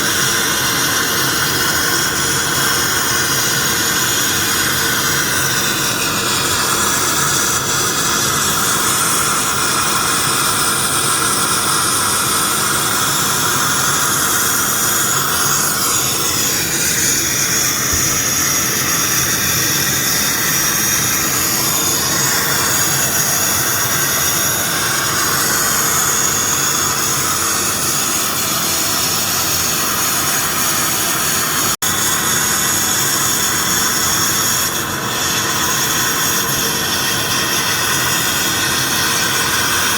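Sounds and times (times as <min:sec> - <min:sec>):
sandblasting machine hissing: 0:00.0 - 0:39.9.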